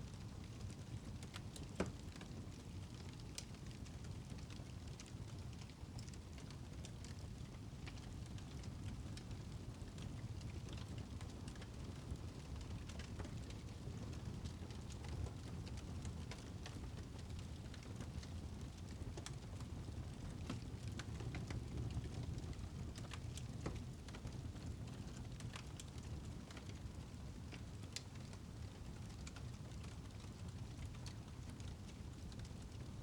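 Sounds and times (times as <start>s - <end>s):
wood fire crackling and popping: 0.2s - 33.0s.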